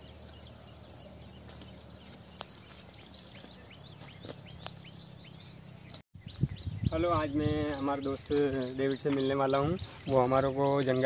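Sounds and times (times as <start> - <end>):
footsteps in dry scrub: 0.2 - 11.0.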